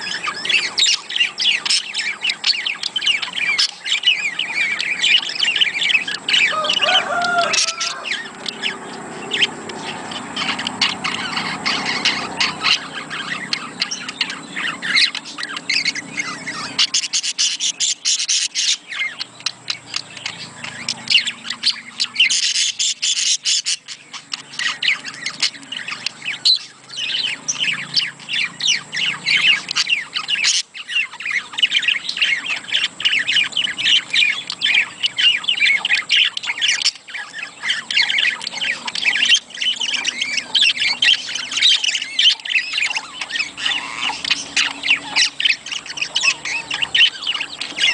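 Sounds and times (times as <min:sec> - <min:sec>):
budgerigars chattering and squawking: 0:00.0 - 0:47.9.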